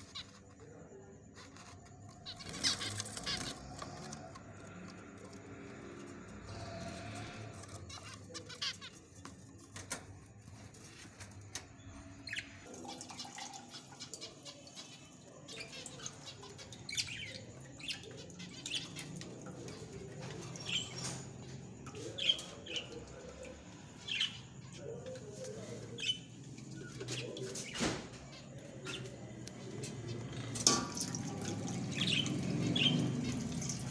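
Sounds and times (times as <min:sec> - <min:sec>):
finches chirping: 0:00.0 - 0:33.9.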